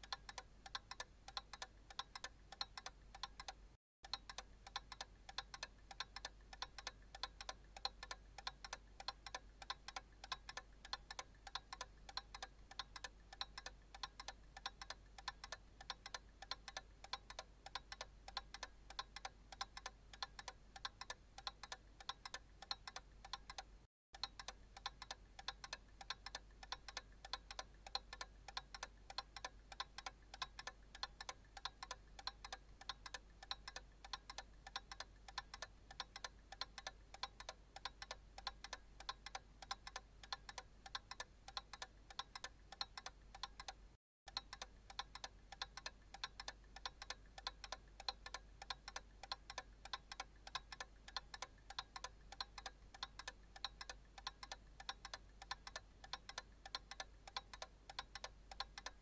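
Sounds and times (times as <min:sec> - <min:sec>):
clock ticking: 0:00.0 - 0:59.0.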